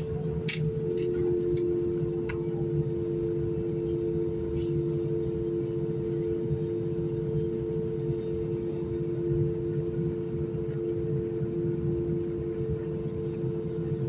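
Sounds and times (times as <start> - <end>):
airplane engine rumble and hum: 0.0 - 14.0.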